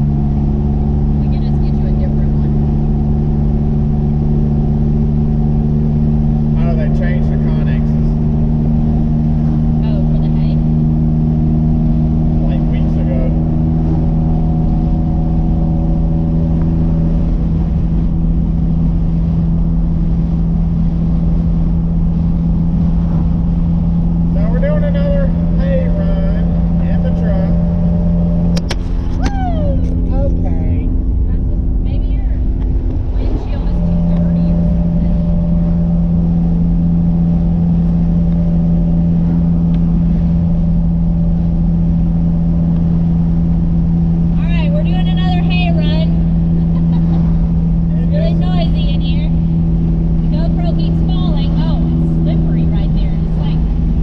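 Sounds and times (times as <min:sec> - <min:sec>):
truck engine hum: 0:00.0 - 0:54.0
tyre and road rumble: 0:00.0 - 0:54.0.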